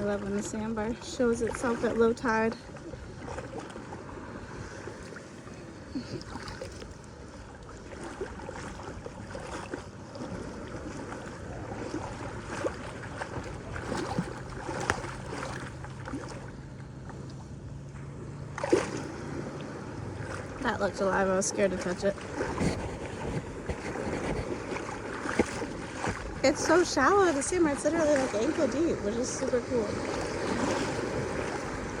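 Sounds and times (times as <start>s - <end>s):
motorboat engine hum: 0.0s - 32.0s
water sloshing and splashing: 0.0s - 32.0s.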